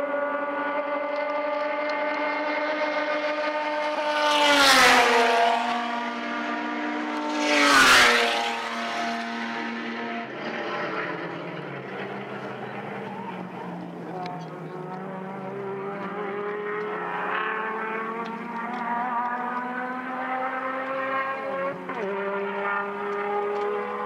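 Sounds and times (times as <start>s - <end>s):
distant race car engines: 0.0s - 24.0s
race cars passing close by: 0.0s - 24.0s.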